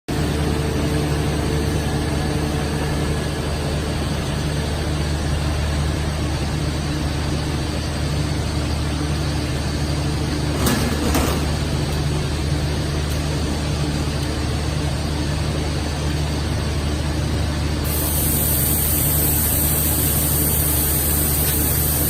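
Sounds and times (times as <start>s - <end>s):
extrusion machine drone: 0.1s - 22.0s.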